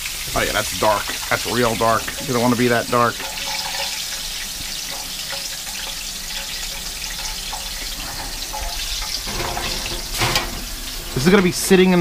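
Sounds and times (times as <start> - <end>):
oil sizzling in a skillet: 0.0 - 12.0.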